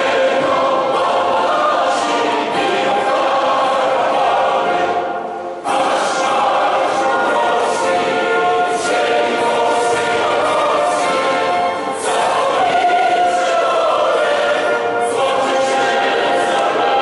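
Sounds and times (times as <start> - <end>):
crowd singing in unison: 0.0 - 17.0.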